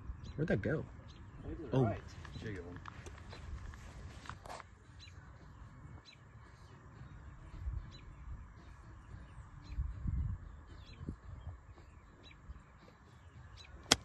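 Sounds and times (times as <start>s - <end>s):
bird chirping: 0.0s - 3.9s, 4.8s - 14.0s.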